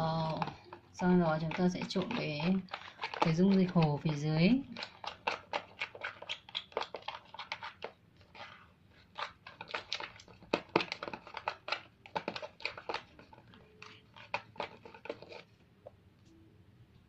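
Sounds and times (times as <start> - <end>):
slime being stirred squelching: 0.0 - 16.5.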